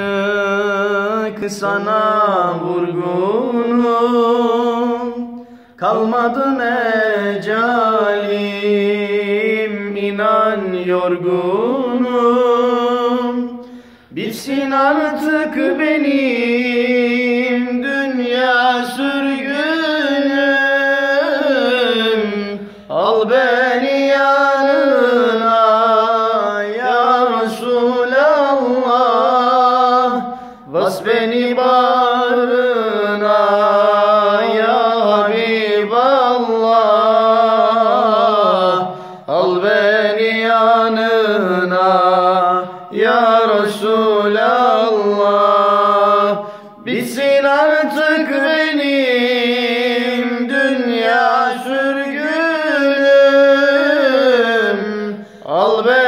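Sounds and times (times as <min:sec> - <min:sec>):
man singing unaccompanied hymn: 0:00.0 - 0:56.0.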